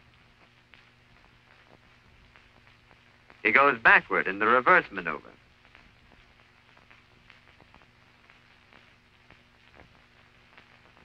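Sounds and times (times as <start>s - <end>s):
soft clicks and crackles: 0.0s - 3.4s, 5.4s - 11.0s
faint steady hum: 0.0s - 11.0s.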